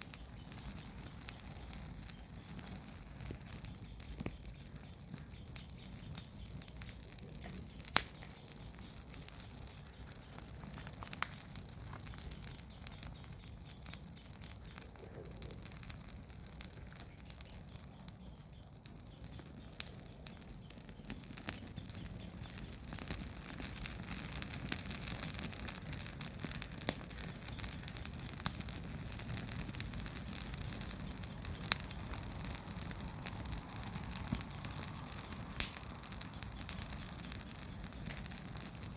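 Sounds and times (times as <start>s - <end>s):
bonfire crackling: 0.0s - 38.9s
burning leaves rustling: 0.0s - 38.9s
burning wood popping: 0.0s - 38.9s.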